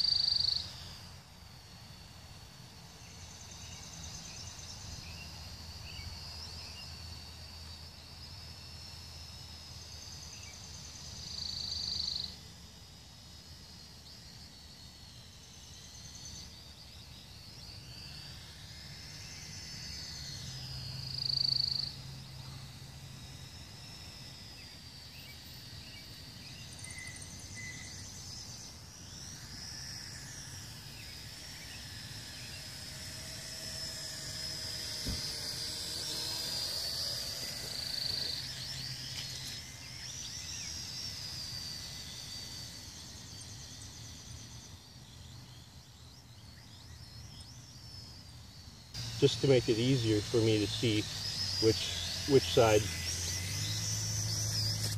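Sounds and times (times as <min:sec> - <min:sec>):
toy quadcopter motors whining: 0:00.0 - 0:54.9.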